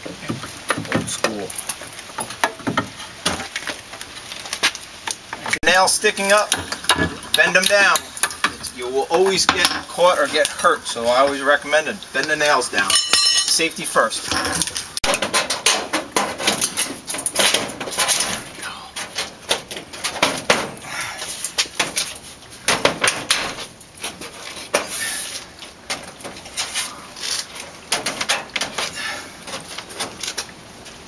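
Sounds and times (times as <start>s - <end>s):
scraping: 0.0s - 31.0s.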